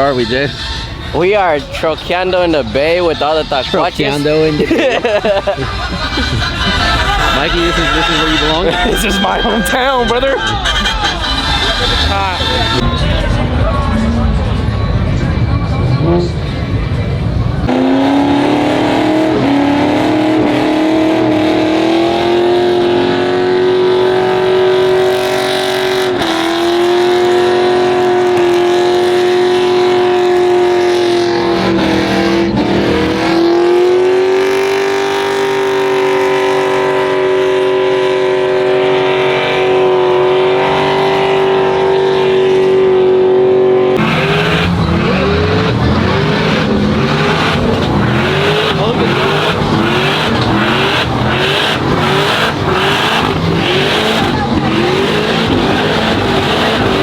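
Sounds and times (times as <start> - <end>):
engine at high revs: 0.0 - 10.4, 17.6 - 57.0.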